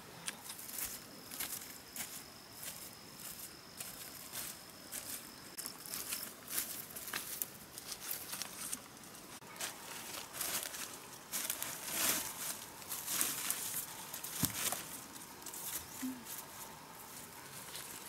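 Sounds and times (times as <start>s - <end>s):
footsteps on dry leaves: 0.6s - 18.0s.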